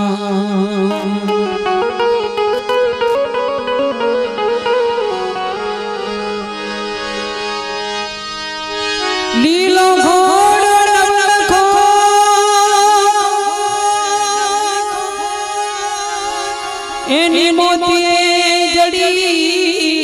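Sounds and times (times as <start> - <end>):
sliding melody: 0.9 - 18.6.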